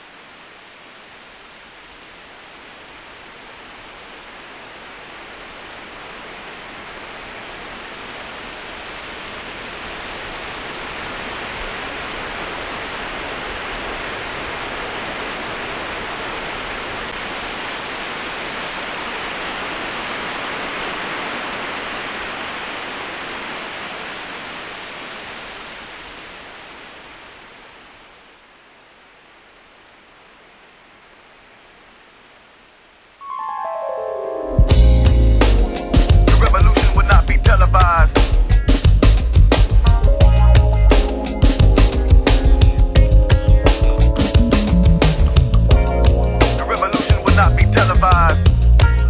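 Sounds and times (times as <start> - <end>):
steady rushing hiss: 0.0 - 33.2, 34.6 - 49.0.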